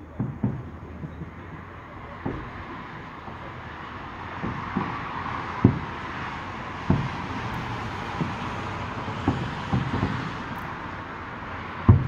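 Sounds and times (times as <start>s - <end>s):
distant fireworks booming: 0.0s - 12.0s.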